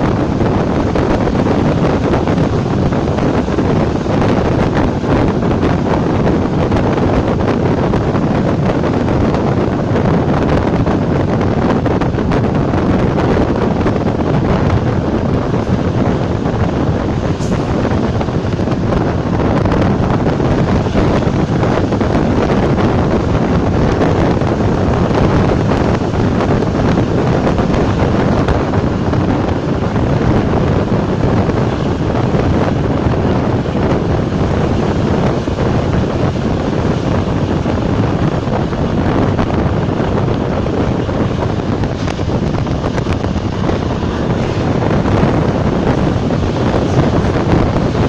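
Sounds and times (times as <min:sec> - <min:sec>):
electric train running at speed: 0:00.0 - 0:48.0
wind buffeting microphone: 0:00.0 - 0:48.0.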